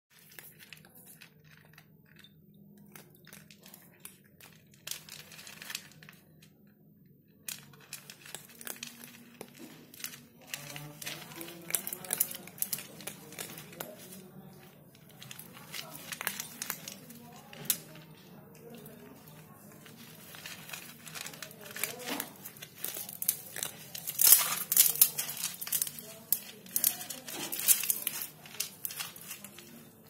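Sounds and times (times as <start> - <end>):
animals crunching dry kibble: 0.1 - 6.3, 7.5 - 30.0.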